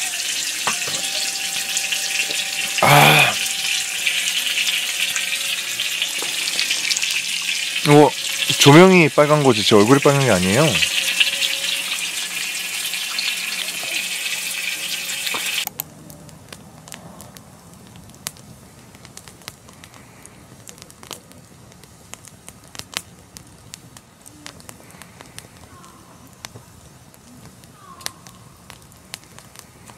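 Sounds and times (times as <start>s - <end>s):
campfire crackling and popping: 0.0s - 29.9s
meat sizzling on a grill: 0.0s - 29.9s.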